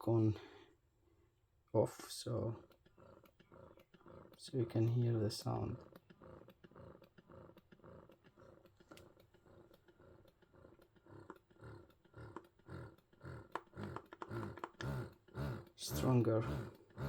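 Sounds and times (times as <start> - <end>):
breast pump motor pulsing: 2.3 - 17.0.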